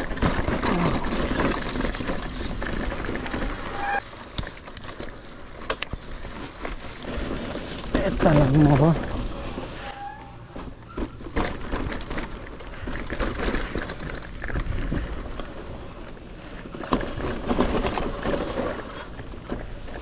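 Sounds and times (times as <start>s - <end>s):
bike knocking and rattling: 0.0s - 20.0s
bike tires rolling on dirt: 0.0s - 20.0s.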